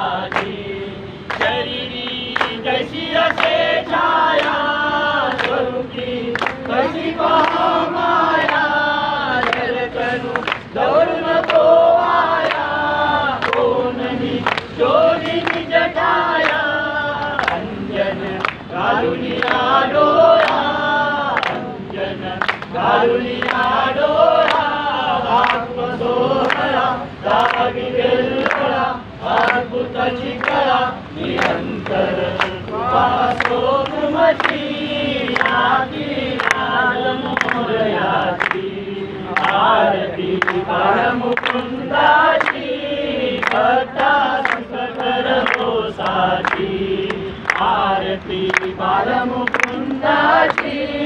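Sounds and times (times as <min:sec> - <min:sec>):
group singing devotional song: 0:00.0 - 0:51.0
rhythmic hand clapping: 0:00.0 - 0:51.0.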